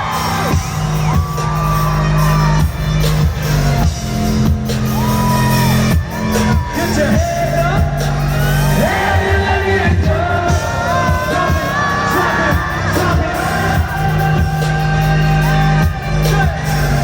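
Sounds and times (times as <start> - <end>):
crowd whooping and shouting: 0.0 - 17.0
heavy bass notes: 0.0 - 17.0.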